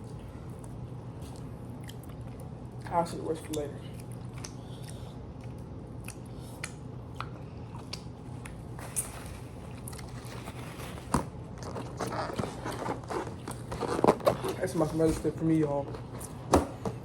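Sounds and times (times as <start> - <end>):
person chewing crunchy food: 0.0 - 14.6.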